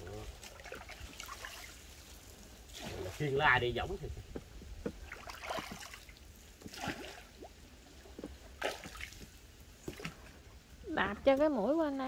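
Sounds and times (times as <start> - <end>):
water splashing and dripping: 0.0 - 11.7.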